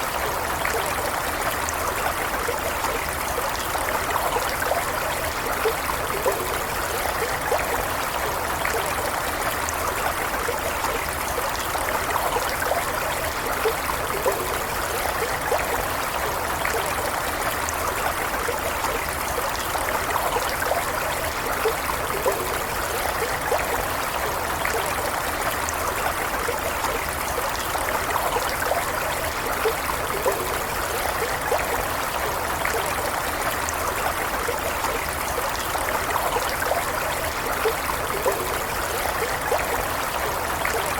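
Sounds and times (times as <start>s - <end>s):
stream running over stones: 0.0s - 40.9s.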